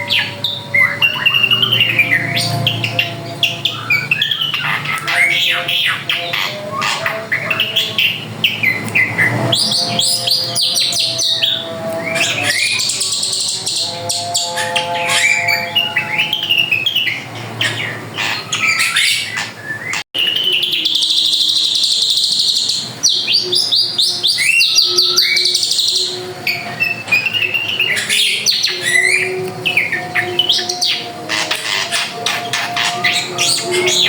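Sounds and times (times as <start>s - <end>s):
bird singing whistles and trills: 0.0s - 34.0s.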